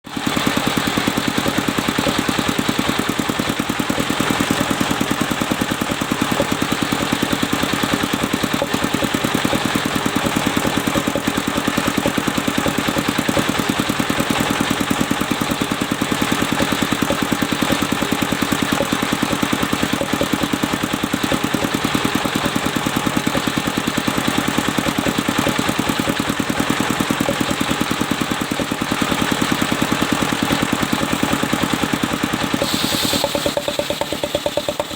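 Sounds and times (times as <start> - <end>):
sawmill engine pulsing: 0.1 - 34.9.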